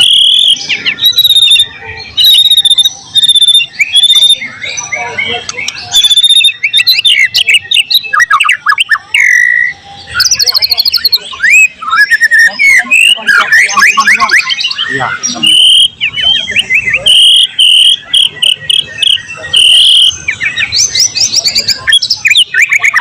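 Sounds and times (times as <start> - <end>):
songbird whistling and trilling: 0.0 - 23.0.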